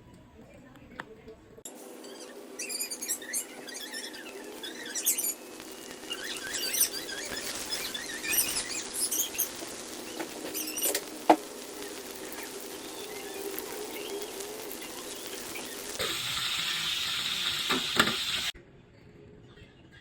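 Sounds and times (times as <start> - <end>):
fritters frying in hot oil: 1.8 - 18.6.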